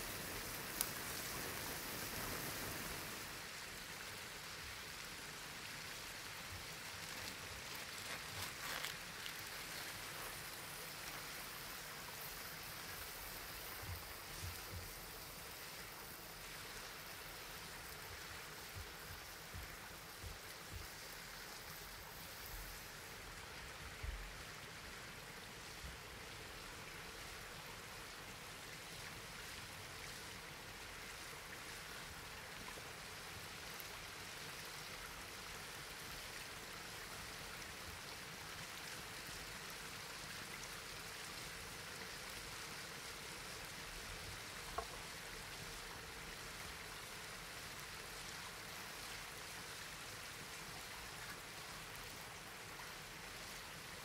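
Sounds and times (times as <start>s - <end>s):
rush of water: 0.0s - 54.0s.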